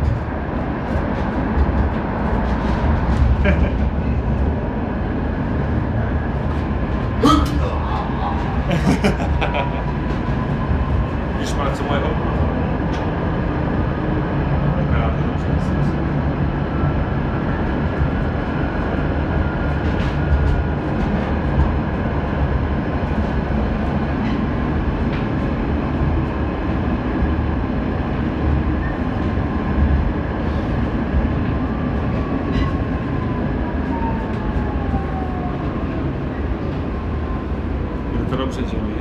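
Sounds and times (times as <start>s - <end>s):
tram rumble: 0.0s - 39.0s
tram whine: 0.0s - 39.0s.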